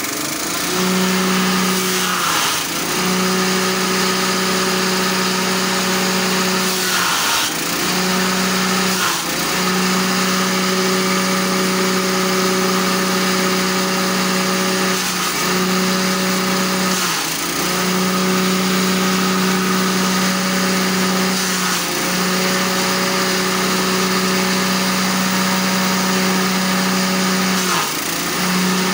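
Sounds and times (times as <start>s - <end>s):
grass being chopped: 0.0s - 28.9s
small petrol engine running: 0.0s - 28.9s.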